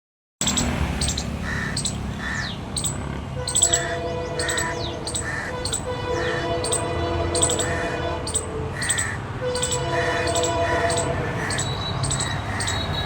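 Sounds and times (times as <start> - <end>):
birds with short harsh calls: 0.4 - 13.0
high bird chirps: 0.4 - 13.0.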